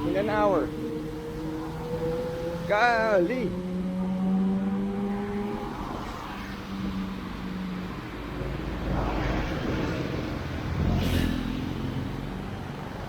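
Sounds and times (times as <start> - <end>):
low traffic rumble: 0.0 - 13.0
vehicle engines running: 0.0 - 13.0
vehicles passing: 0.0 - 13.0.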